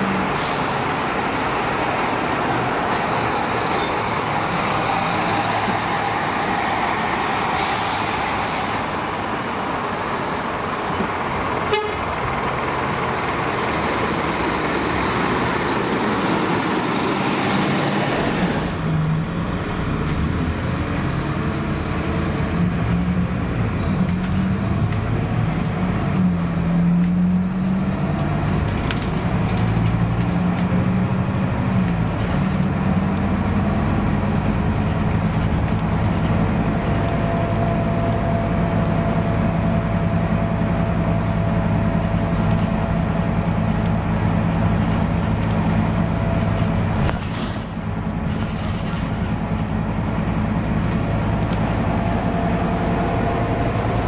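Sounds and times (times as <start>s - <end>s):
bus engine droning: 0.0s - 54.0s
bus pulling away: 0.0s - 54.0s
street noise: 0.0s - 54.0s.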